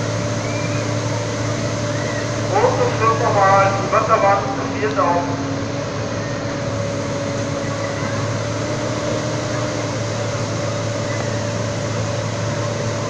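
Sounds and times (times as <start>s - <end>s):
pump engine hum: 0.0s - 13.0s.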